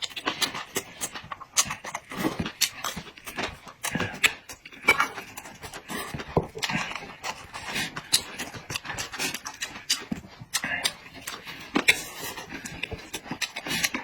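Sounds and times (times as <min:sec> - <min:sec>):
clicks while eating: 0:00.0 - 0:14.0
slurps: 0:00.0 - 0:14.0
wet chewing and lip-smacking: 0:00.0 - 0:14.0.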